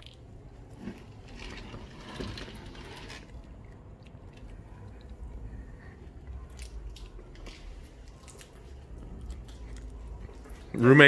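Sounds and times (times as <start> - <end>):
faint low rumble: 0.0 - 10.8.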